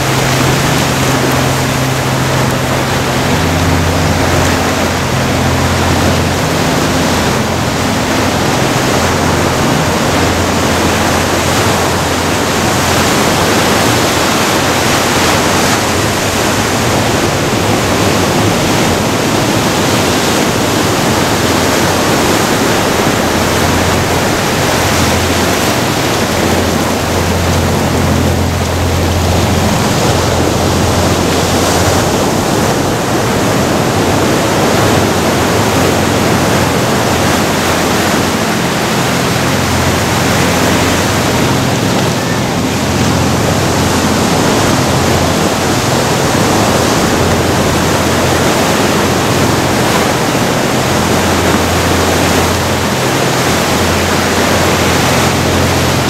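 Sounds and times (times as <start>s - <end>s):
sea surf breaking on rocks: 0.0s - 56.0s.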